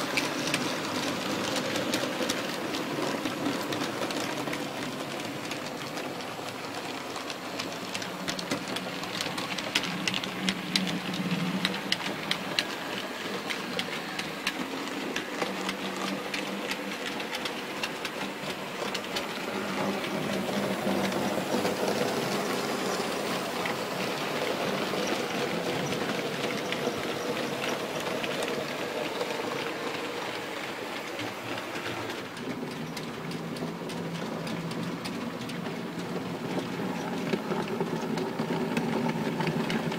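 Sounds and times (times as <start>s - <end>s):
model train wheels clicking: 0.0s - 39.9s.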